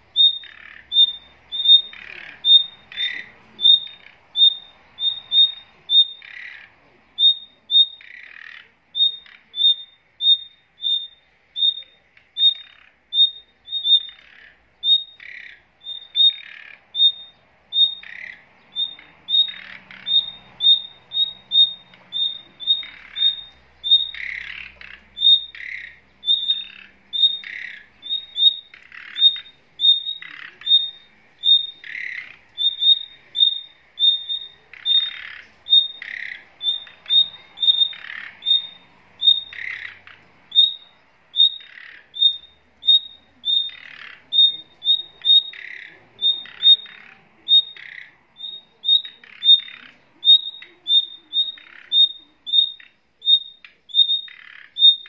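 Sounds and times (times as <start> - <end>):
harsh bird squawks: 0.0 - 55.0.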